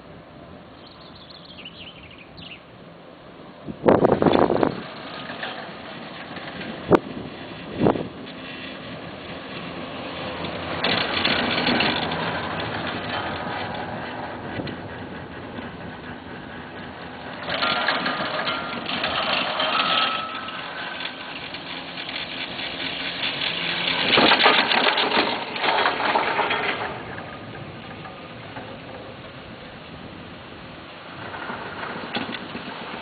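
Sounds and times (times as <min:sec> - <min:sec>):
chairlift mechanical clatter: 0:03.8 - 0:33.0.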